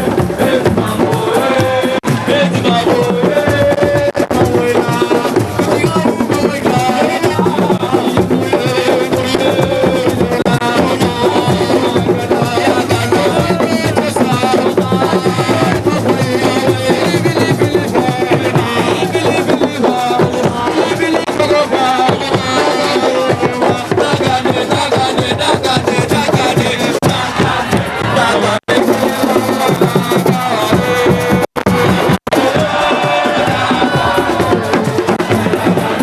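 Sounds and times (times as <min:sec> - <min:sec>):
hand drums playing: 0:00.0 - 0:36.0
voices singing: 0:00.0 - 0:36.0.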